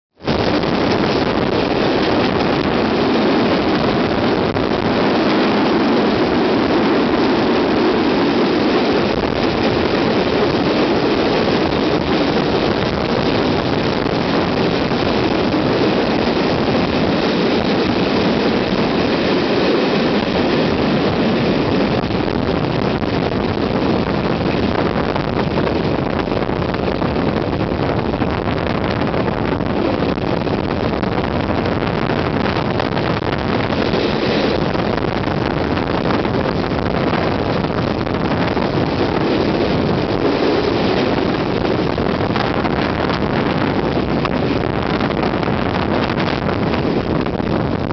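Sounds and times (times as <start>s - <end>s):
wind rushing on microphone: 0.1s - 47.9s.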